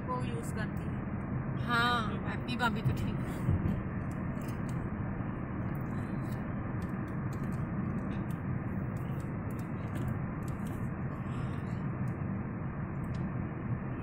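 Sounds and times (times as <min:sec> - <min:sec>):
car interior road drone: 0:00.0 - 0:14.0.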